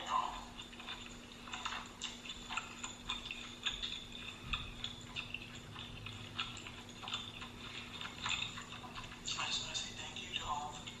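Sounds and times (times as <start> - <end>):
crunchy chewing: 0.0 - 11.0
faint steady hum: 0.0 - 11.0.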